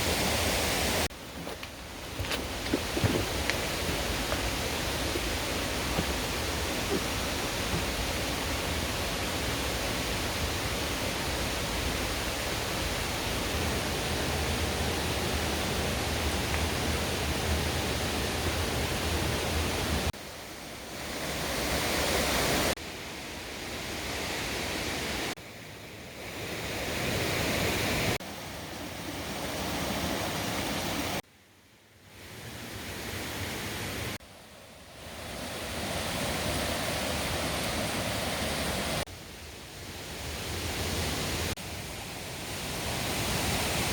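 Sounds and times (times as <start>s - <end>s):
stream rushing over rocks: 0.0s - 25.3s, 26.3s - 31.2s, 34.9s - 43.9s.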